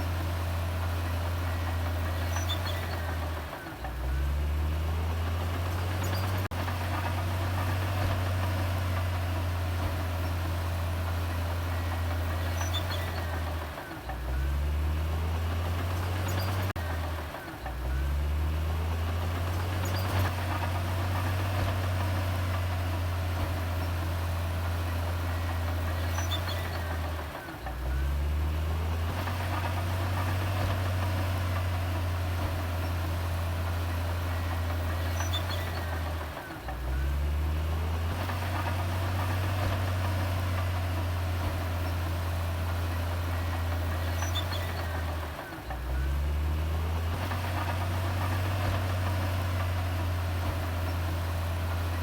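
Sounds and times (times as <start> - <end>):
heavy engine droning: 0.0 - 52.0.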